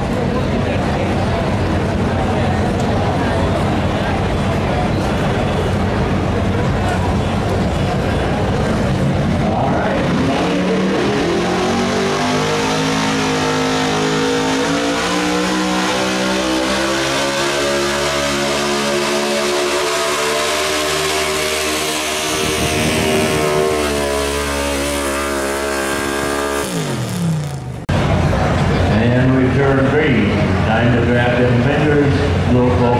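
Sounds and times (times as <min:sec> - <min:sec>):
truck engine at full throttle: 0:00.0 - 0:32.9.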